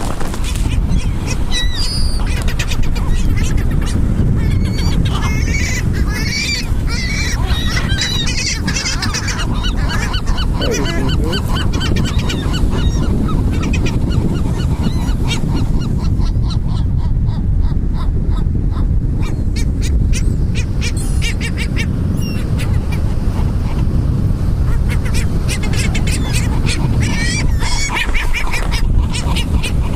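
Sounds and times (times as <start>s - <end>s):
seagulls squawking: 0.4s - 18.1s, 19.2s - 23.9s, 24.6s - 29.9s.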